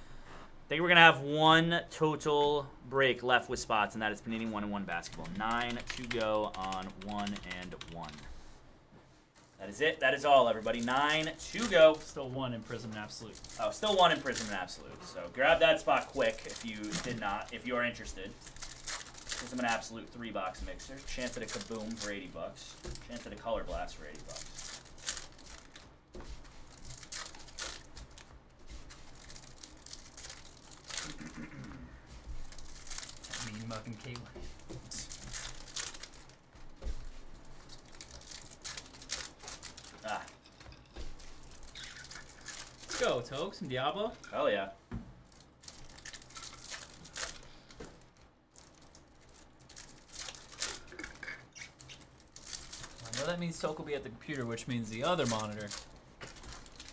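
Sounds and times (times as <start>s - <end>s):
card pack wrappers crinkling: 4.3s - 8.3s, 9.6s - 31.4s, 32.1s - 43.8s, 45.3s - 56.9s.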